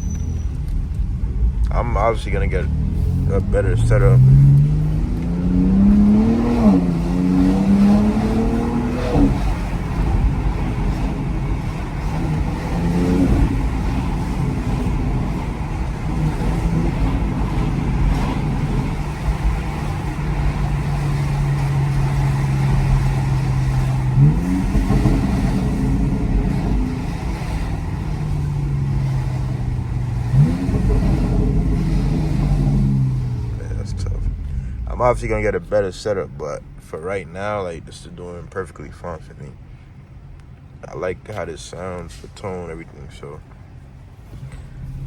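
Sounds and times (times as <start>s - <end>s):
car engine revving while driving: 0.0s - 41.0s, 41.9s - 45.0s.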